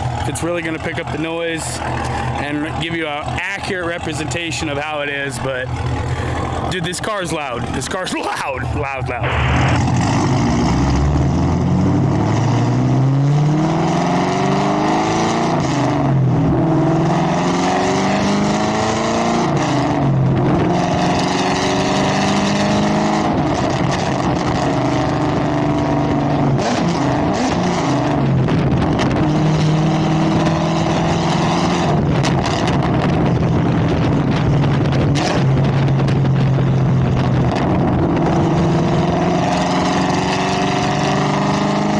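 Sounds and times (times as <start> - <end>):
loud car engine exhaust revving: 0.0 - 41.9.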